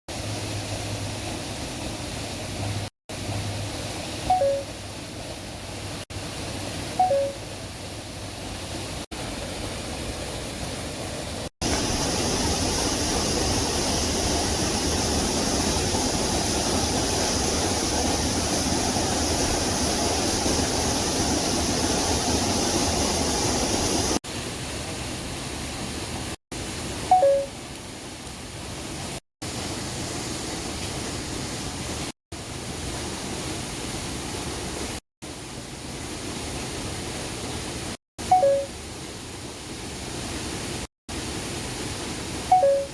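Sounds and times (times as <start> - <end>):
stream water flowing: 0.1 - 42.9.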